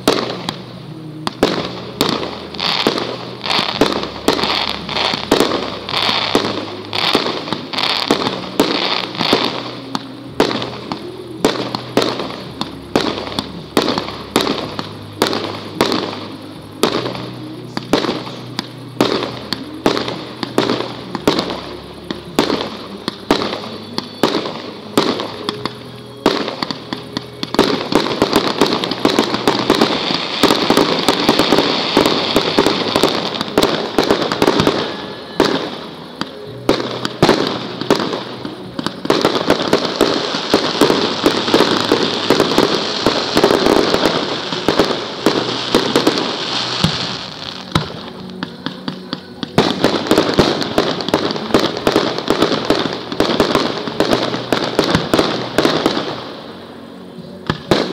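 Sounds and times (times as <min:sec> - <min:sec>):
fireworks crackle: 0:00.0 - 0:57.9
fireworks firing: 0:00.0 - 0:57.9.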